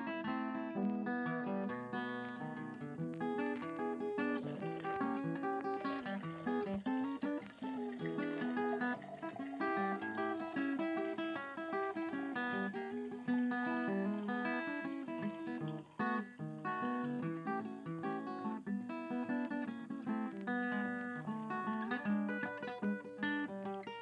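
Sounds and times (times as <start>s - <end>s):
plucked acoustic guitar: 0.0s - 24.0s.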